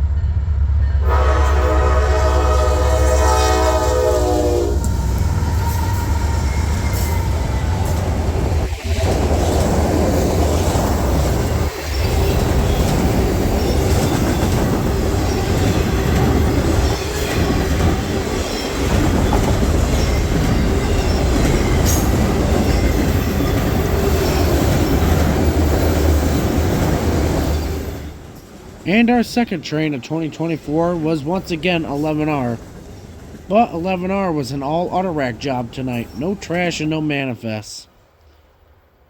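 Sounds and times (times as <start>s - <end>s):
train wheels rumbling on rails: 0.0s - 37.2s
clickety-clack over rail joints: 4.8s - 36.5s.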